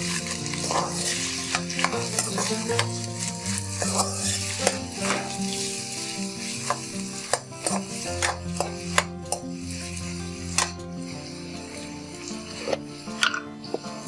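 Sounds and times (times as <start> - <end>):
metal spoon scraping and knocking pan: 0.0 - 14.0
onions sizzling in oil: 0.0 - 14.0.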